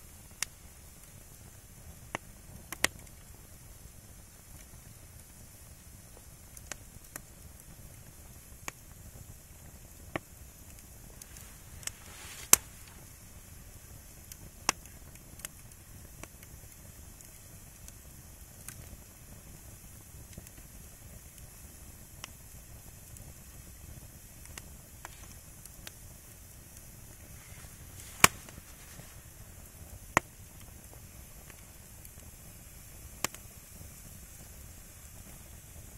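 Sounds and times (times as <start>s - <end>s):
firewood crackling and popping: 0.0s - 35.9s.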